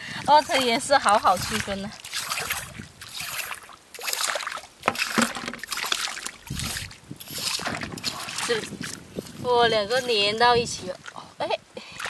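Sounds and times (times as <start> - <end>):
seawater sloshing and splashing: 0.0 - 11.3.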